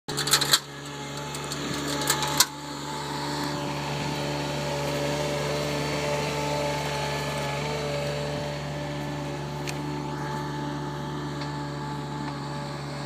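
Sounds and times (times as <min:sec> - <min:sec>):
loader engine running: 0:00.1 - 0:13.0.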